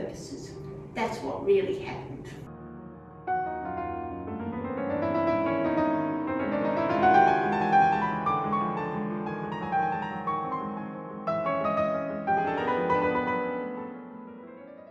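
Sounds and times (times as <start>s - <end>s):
solo piano music: 0.0s - 14.9s.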